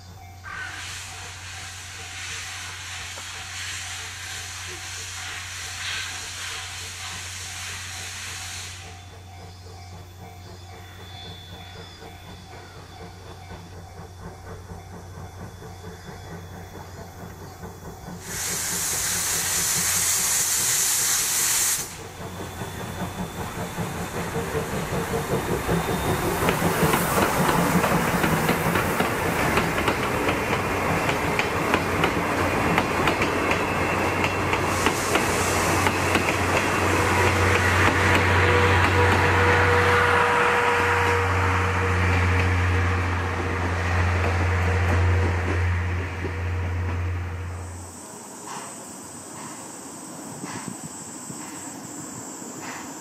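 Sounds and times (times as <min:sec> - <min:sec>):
steam locomotive exhaust chuffs: 0:00.0 - 0:53.0
loud steam hiss: 0:00.2 - 0:53.0.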